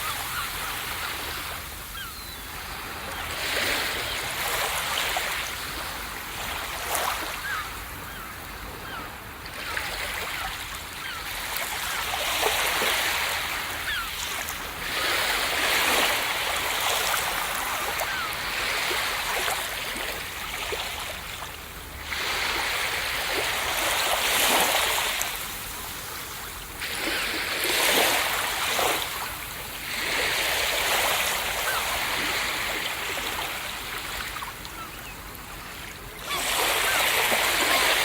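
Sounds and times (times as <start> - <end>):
ocean waves breaking on beach: 0.0 - 38.0.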